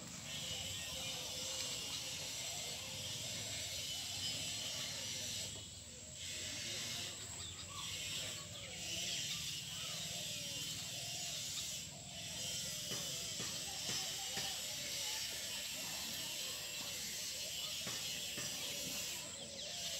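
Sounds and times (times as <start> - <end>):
high open-air hiss: 0.0 - 19.9
faint chirping calls: 0.2 - 19.9.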